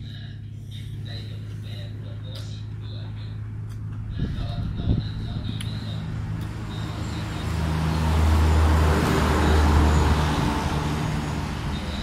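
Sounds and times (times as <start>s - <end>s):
vehicle passing on road: 1.2s - 12.0s.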